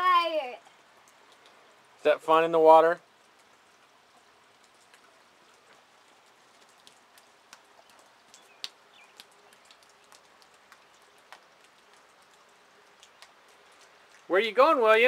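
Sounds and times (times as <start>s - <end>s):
light rain falling: 0.0s - 15.0s
raindrops ticking on hard surfaces: 0.0s - 15.0s.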